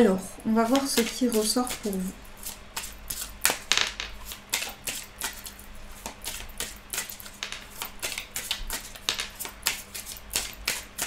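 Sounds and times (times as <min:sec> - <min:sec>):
deck of cards being shuffled: 0:00.7 - 0:11.0.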